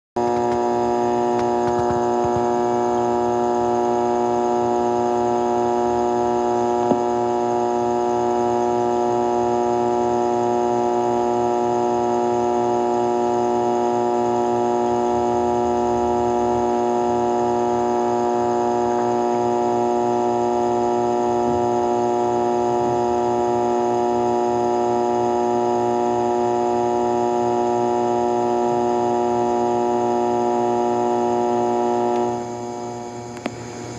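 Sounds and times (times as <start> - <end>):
transmitter humming: 0.2 - 33.9.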